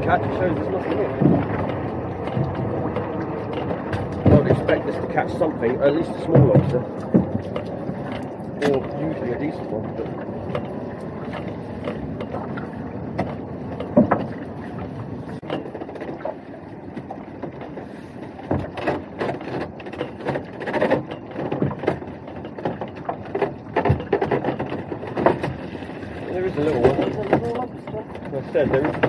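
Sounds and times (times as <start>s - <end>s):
knocks and rattles of lobster pot: 0.0s - 16.3s, 18.4s - 29.0s
fishing boat engine running: 0.0s - 29.0s.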